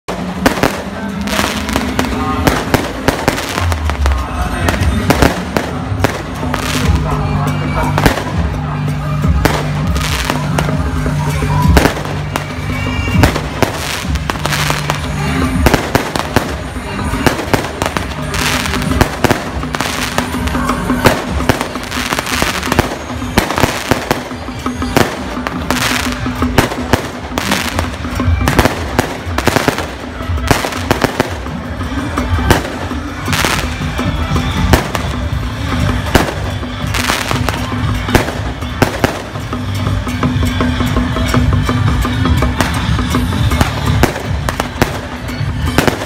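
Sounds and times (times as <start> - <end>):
firecrackers banging and crackling: 0.1 - 46.0
procession music: 0.1 - 46.0.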